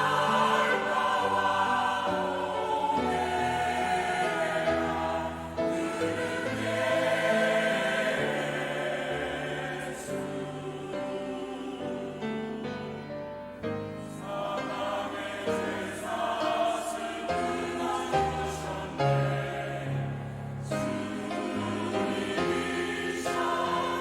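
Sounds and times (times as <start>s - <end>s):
choir singing a hymn: 0.0s - 24.0s.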